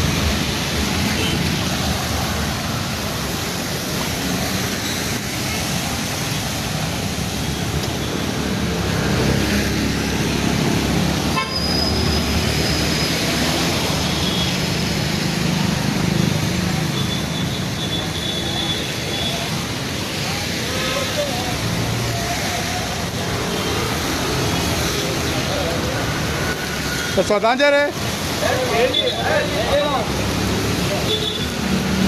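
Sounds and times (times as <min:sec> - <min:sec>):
tyres hissing through water: 0:00.0 - 0:32.0
vehicle engines: 0:00.0 - 0:32.0.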